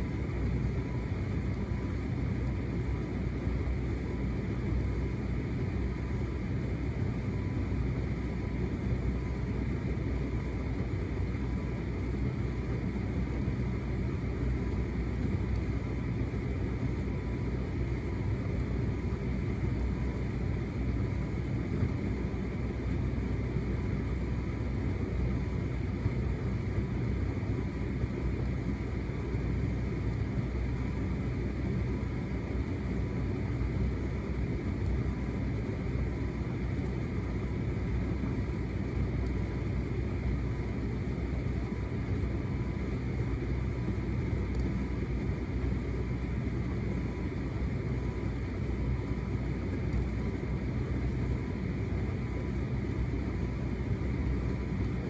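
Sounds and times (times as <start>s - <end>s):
dryer motor and fan rumble: 0.0s - 55.0s.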